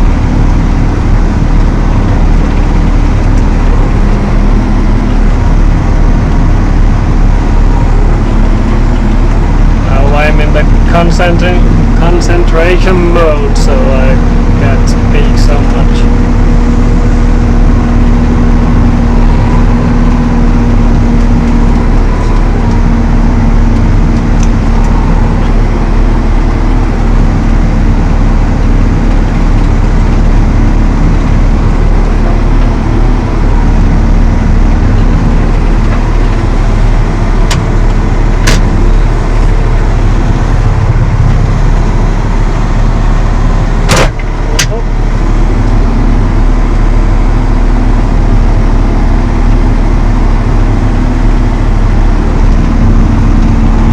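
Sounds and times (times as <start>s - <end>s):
steady hum: 0.0s - 53.9s
tractor diesel engine drone: 0.0s - 53.9s.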